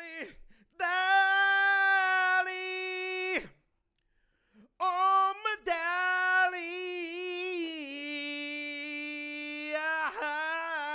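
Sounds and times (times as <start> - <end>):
man singing solo: 0.0 - 3.5, 4.8 - 10.9.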